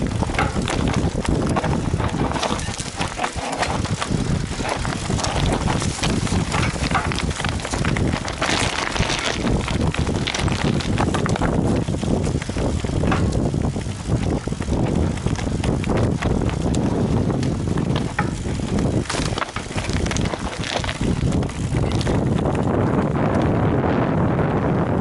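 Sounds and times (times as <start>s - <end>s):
bike rattling over stones: 0.0s - 25.0s
wind buffeting microphone: 0.0s - 25.0s.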